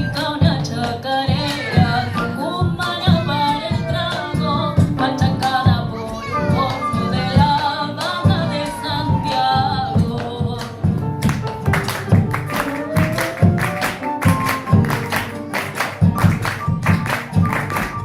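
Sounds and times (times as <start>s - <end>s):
latin song with singing: 0.0s - 18.0s.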